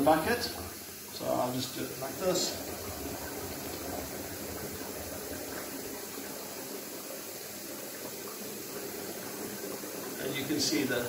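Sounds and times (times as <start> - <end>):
air bubbling through water: 0.0 - 11.0
water pouring: 0.0 - 11.0.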